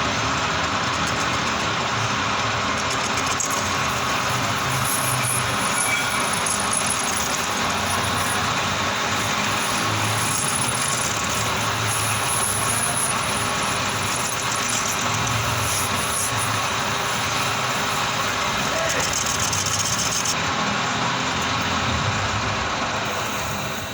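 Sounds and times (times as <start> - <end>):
metal lathe running: 0.0 - 23.9.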